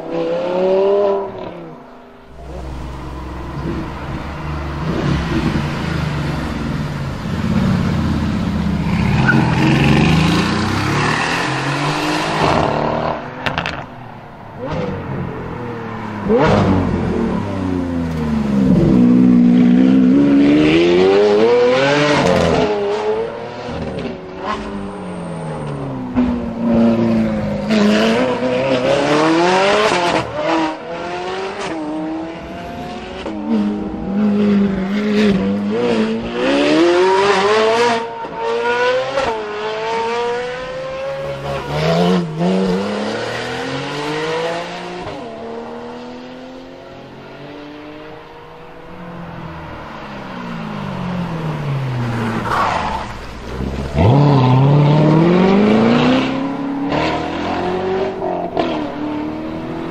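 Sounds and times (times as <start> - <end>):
supercar engines revving: 0.0 - 14.0, 14.6 - 59.9.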